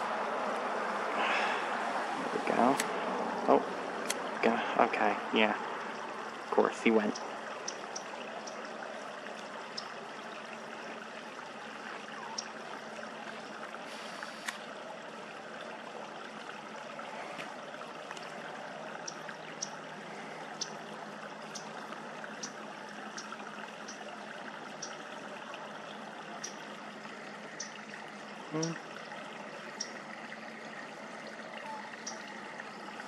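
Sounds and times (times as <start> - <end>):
outdoor background hiss: 0.0 - 33.0.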